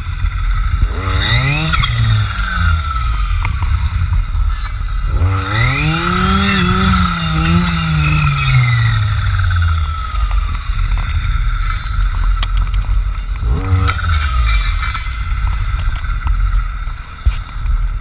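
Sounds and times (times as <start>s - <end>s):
clearing saw engine running: 0.0s - 16.1s.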